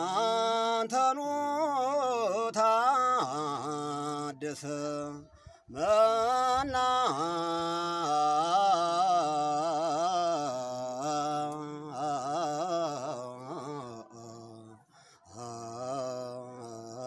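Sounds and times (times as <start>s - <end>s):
man singing unaccompanied hymn: 0.0s - 17.0s.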